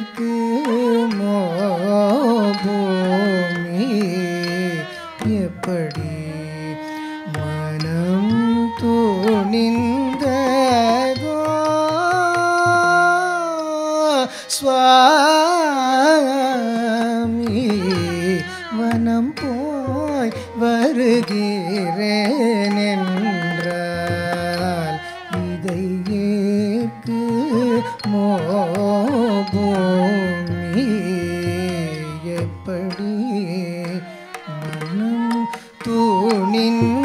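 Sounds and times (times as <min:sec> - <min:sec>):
person singing ornamented melody: 0:00.0 - 0:37.0.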